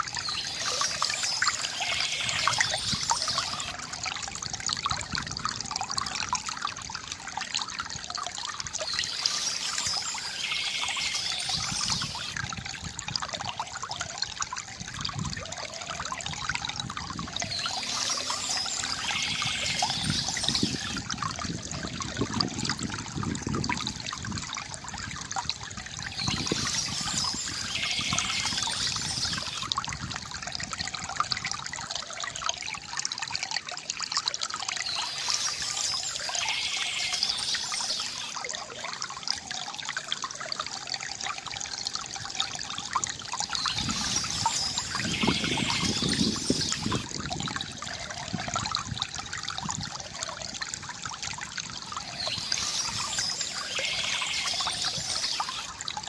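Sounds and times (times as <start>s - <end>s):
fountain water trickling: 0.0s - 56.0s.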